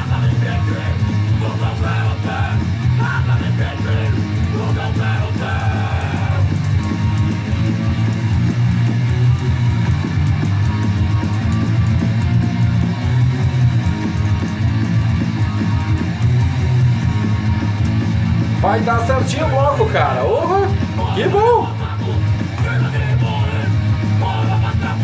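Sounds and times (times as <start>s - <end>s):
rock song: 0.0s - 25.0s.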